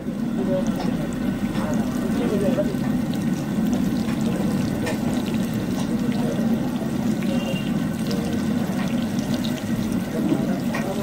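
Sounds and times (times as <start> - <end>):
batter deep-frying in hot oil: 0.0 - 11.0.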